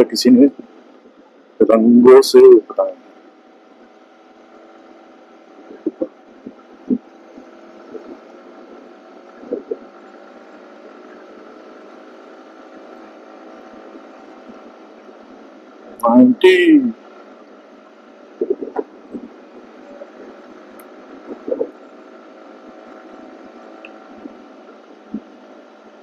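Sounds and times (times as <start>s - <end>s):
motorcycle engine humming: 2.7s - 26.0s.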